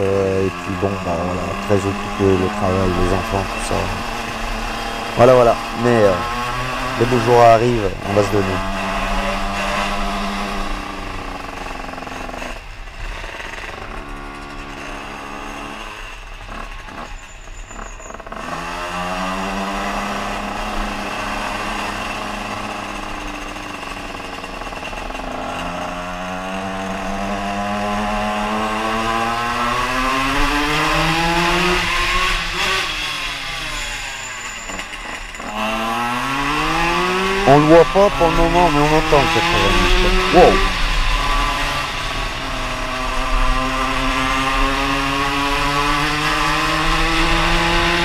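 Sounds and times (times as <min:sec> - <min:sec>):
two-stroke moped engine revving: 0:00.0 - 0:48.0.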